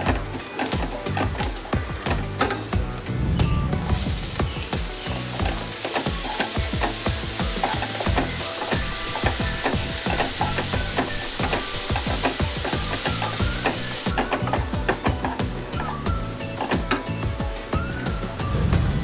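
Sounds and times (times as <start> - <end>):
onions sizzling in a pan: 0.0 - 18.7.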